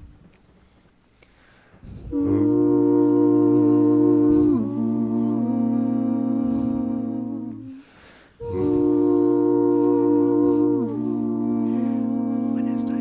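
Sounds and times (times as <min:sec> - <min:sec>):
vocal ensemble singing chords: 0:01.9 - 0:13.0.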